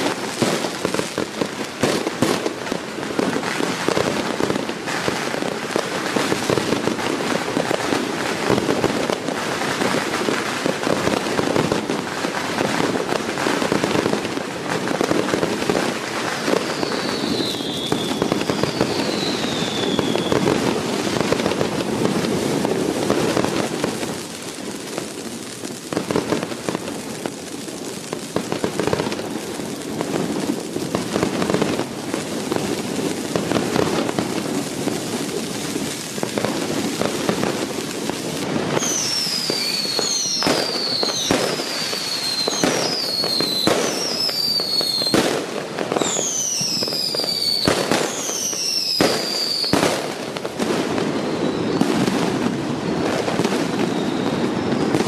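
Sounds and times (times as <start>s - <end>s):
falling firework whistles: 0.0s - 55.0s
firecrackers crackling: 0.0s - 55.0s.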